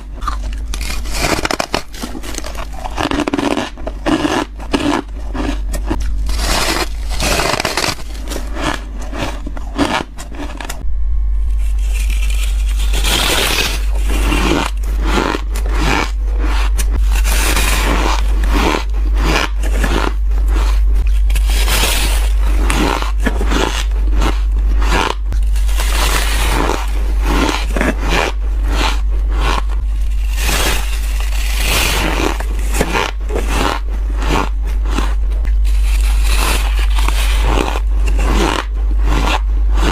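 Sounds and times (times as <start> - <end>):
chewing crunchy ice: 0.0 - 10.8, 11.6 - 39.9
steady low hum: 0.0 - 39.9.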